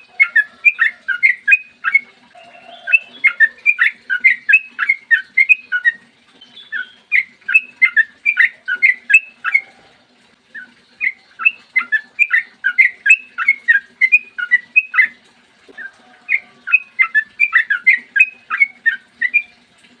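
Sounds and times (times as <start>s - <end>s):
bird singing rapid chirps: 0.0s - 9.6s, 10.6s - 15.2s, 16.3s - 19.5s.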